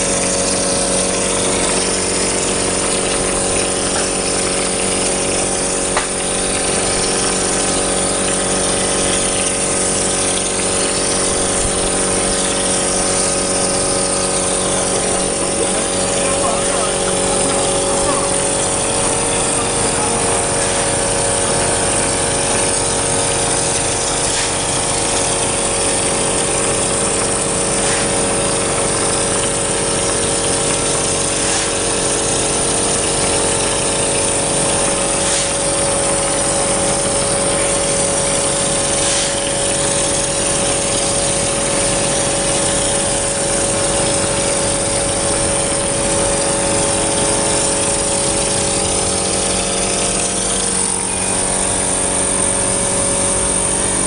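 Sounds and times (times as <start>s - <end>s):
mortar spraying machine humming: 0.0s - 54.0s.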